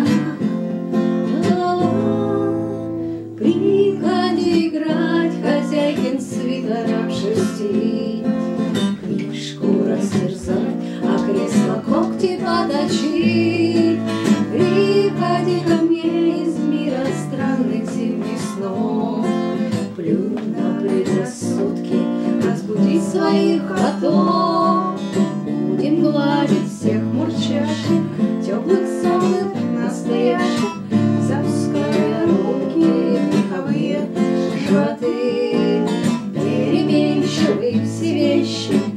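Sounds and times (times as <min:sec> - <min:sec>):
acoustic guitar strumming: 0:00.0 - 0:38.9
woman singing: 0:00.0 - 0:38.9.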